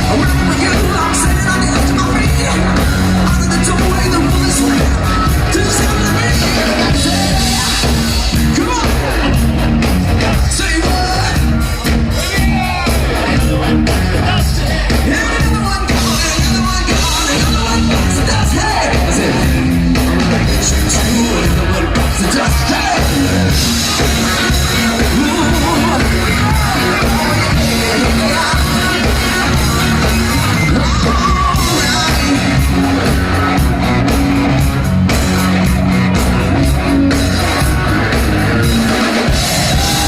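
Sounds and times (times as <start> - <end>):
person singing: 0.0 - 9.4, 10.2 - 35.0
bass guitar held notes: 0.0 - 40.0
crowd shouting: 0.0 - 40.0
live rock band playing: 0.0 - 40.0.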